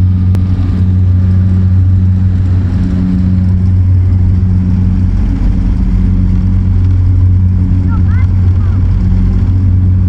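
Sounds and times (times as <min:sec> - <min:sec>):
propeller plane flying over: 0:00.0 - 0:10.0.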